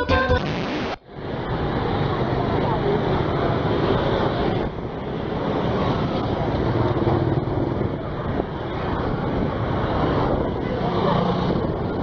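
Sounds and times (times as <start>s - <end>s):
scooters and motorbikes passing: 1.2s - 12.0s.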